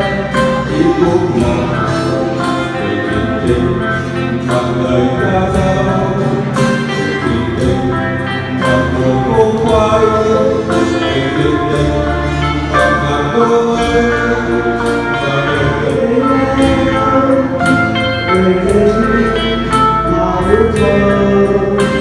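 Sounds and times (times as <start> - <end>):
electronic keyboard: 0.0 - 22.0
man singing: 0.0 - 22.0
strummed acoustic guitar: 0.0 - 22.0.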